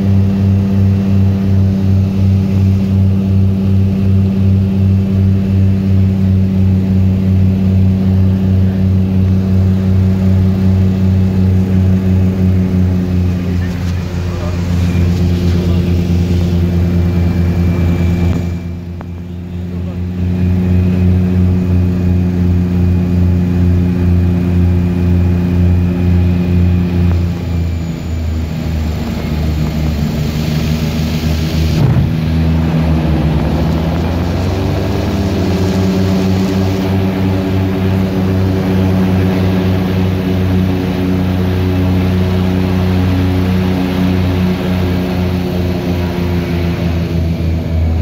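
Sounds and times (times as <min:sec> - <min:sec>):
propeller aircraft engine drone: 0:00.0 - 0:48.0.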